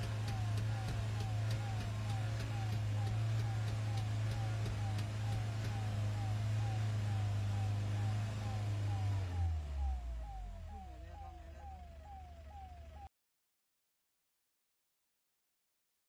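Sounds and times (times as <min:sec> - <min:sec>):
reversing alarm chirping: 0:00.0 - 0:13.1
vehicle engine running hard: 0:00.0 - 0:13.1.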